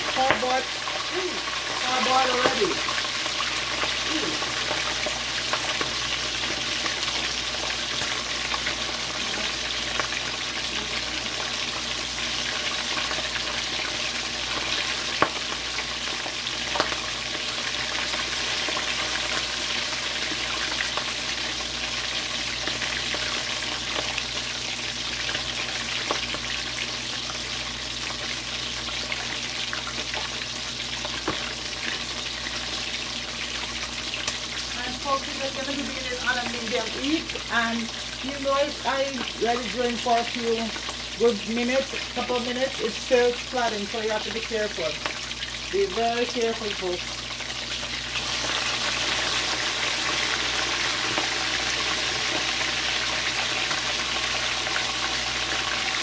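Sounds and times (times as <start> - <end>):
oil sizzling: 0.0 - 56.0.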